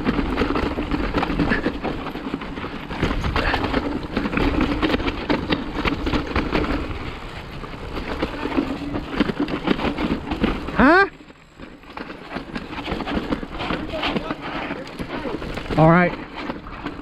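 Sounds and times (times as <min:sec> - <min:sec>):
bike rattling over bumps: 0:00.0 - 0:17.0
bike tyres on dirt trail: 0:00.0 - 0:17.0.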